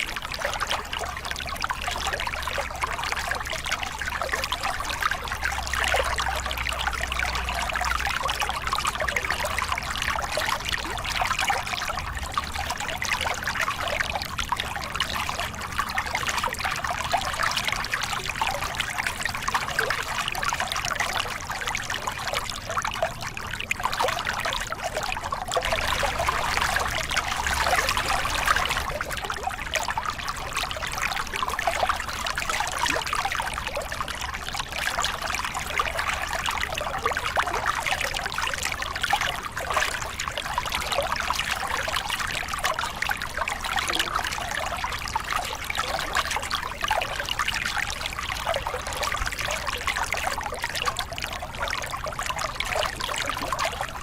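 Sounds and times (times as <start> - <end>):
water splashing over rocks: 0.0 - 54.0.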